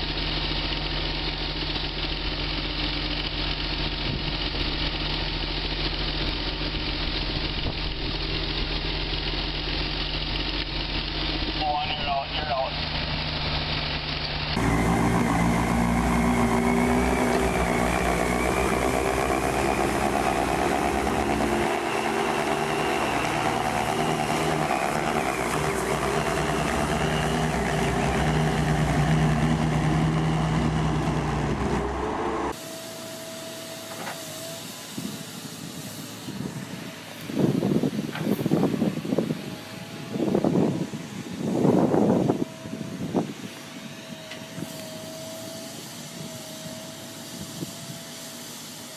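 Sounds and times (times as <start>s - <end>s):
construction machine engines running: 0.0s - 48.9s.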